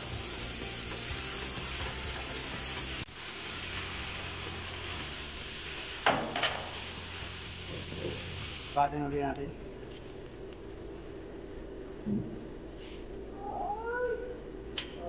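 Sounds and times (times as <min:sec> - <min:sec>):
workshop background hiss: 0:00.0 - 0:13.4.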